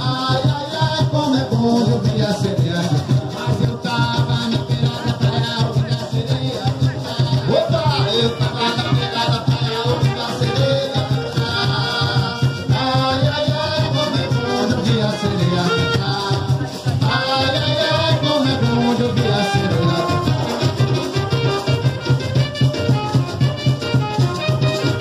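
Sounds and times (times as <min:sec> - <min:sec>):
hand drums: 0:00.0 - 0:25.0
maraca rattle: 0:00.0 - 0:25.0.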